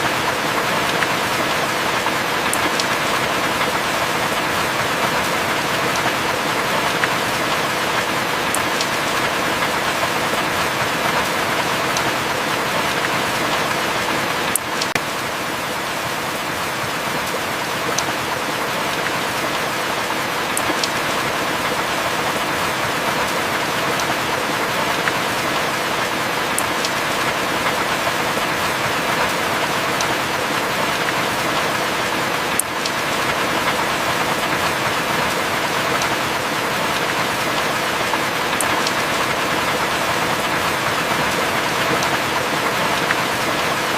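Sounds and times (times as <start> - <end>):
water drips ticking: 0.0 - 15.1, 17.2 - 22.0, 23.2 - 43.9
heavy rain falling: 0.0 - 43.9.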